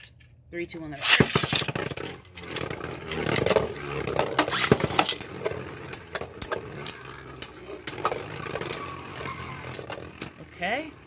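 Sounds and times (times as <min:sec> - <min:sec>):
spinning tops clacking: 0:01.0 - 0:10.5
spinning tops whirring: 0:01.0 - 0:11.0.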